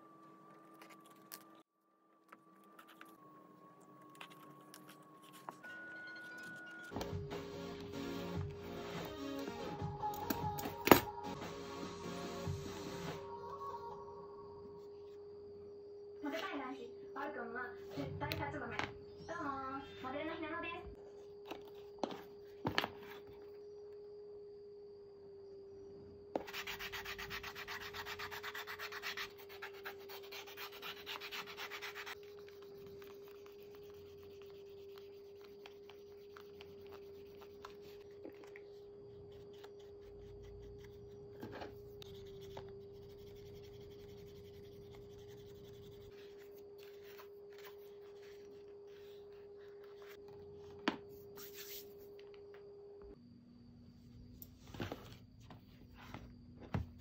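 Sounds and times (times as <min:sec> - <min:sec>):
faint steady hum: 0:09.8 - 0:57.0.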